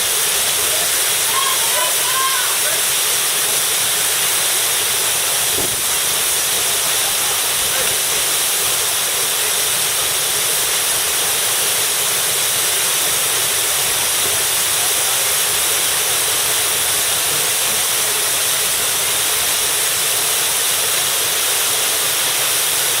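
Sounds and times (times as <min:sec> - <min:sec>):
waterfall pouring: 0:00.0 - 0:23.0.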